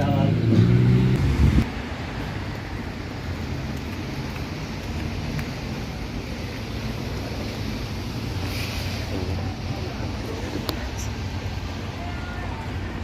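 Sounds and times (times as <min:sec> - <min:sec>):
vehicle road noise: 0:00.0 - 0:13.0.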